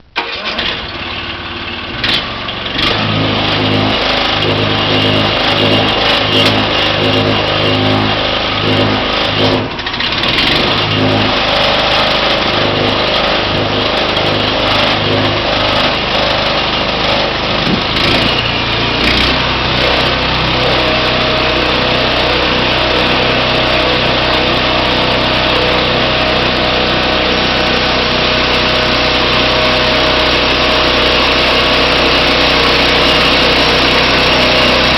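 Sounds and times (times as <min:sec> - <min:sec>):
small sawmill engine running: 0:00.2 - 0:34.9.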